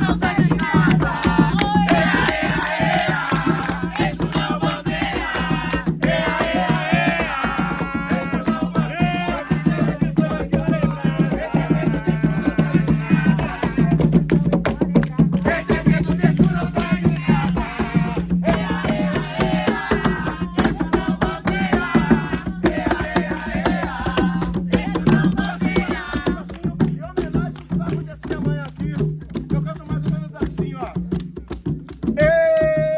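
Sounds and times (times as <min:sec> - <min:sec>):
voices singing: 0:00.0 - 0:26.8
fast hand-drumming: 0:00.0 - 0:32.9.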